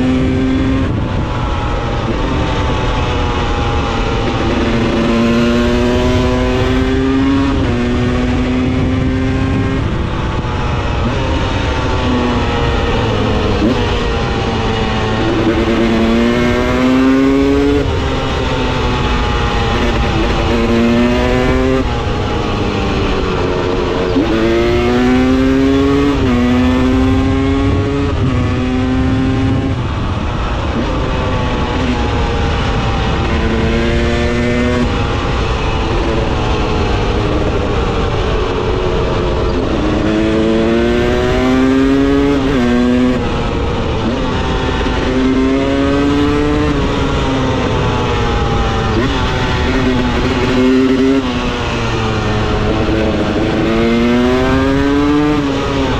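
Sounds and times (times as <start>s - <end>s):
low wind rumble: 0.0s - 55.9s
motorcycle engine revving: 0.0s - 55.9s.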